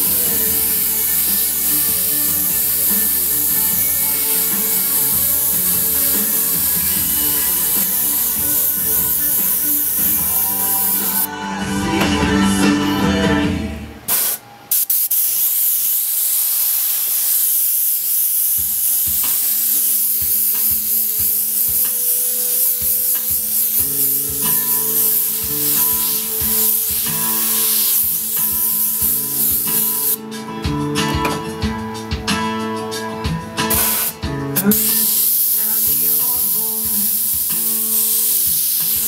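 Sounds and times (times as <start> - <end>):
airbrush spraying hiss: 0.0 - 11.3, 14.1 - 30.4, 33.6 - 39.0.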